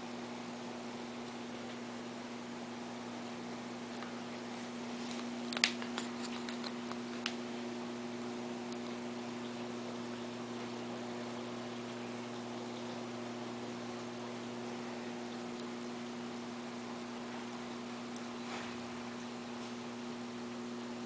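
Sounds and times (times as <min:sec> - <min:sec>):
aquarium equipment hum: 0:00.0 - 0:21.0.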